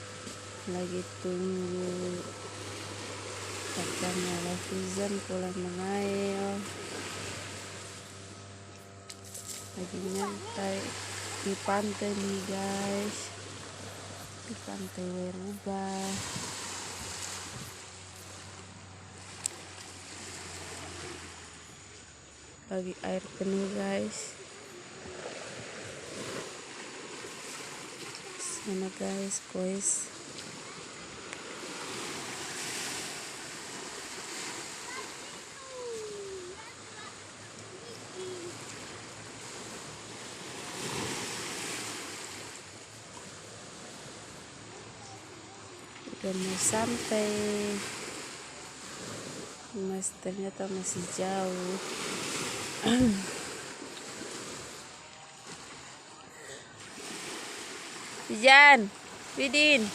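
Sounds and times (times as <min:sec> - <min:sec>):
sea surf: 0:00.0 - 0:59.9
wind: 0:00.0 - 0:59.9.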